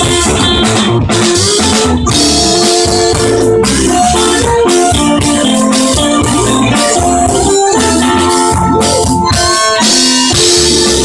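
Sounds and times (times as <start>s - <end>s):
drum kit: 0.0s - 11.0s
electric bass: 0.0s - 11.0s
guitar: 0.0s - 11.0s.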